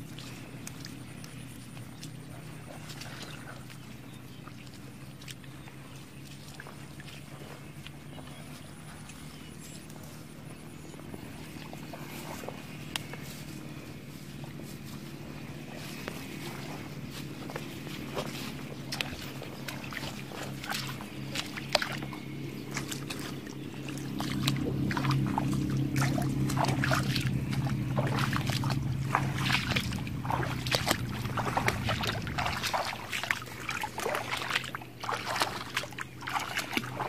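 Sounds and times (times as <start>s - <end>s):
bare feet splashing in water: 0.0s - 37.0s
steady low hum: 0.0s - 37.0s.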